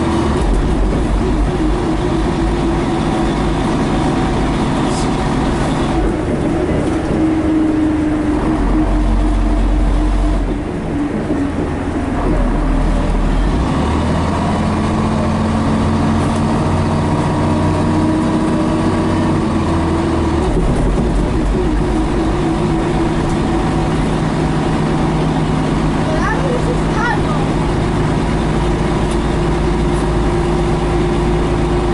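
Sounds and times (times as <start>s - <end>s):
bus diesel engine running: 0.0s - 31.9s.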